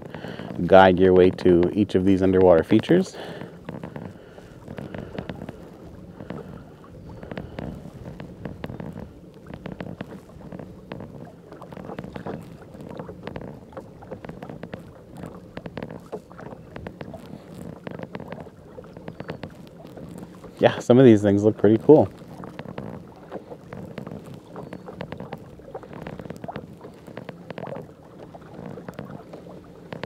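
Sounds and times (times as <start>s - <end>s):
small irregular clicks and knocks: 0.0s - 20.8s, 21.4s - 30.0s
water lapping against hull: 0.0s - 30.0s.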